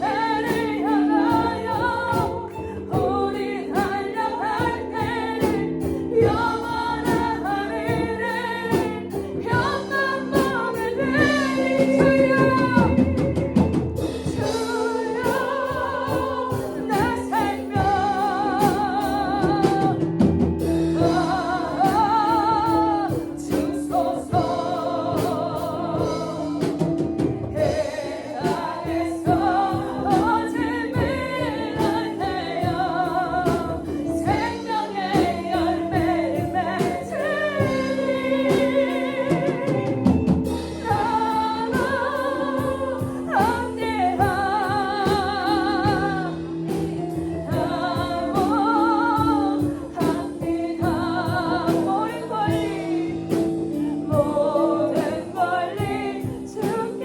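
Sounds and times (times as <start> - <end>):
drum kit: 0.0 - 57.0
sustained keyboard chords: 0.0 - 57.0
voices singing with vibrato: 0.0 - 57.0.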